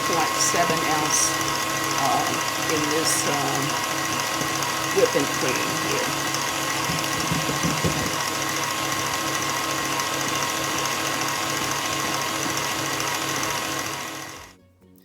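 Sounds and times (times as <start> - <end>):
electric mixer running: 0.0 - 14.6.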